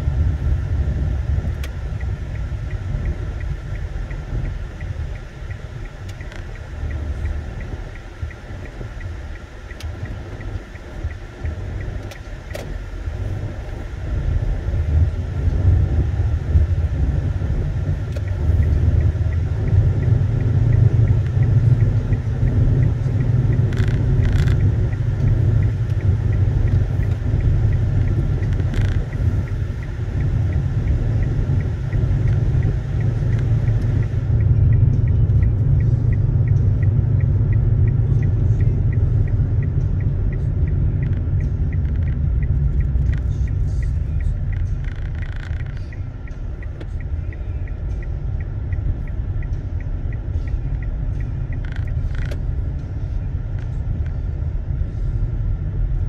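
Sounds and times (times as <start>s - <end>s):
car driving interior rumble: 0.0s - 56.0s.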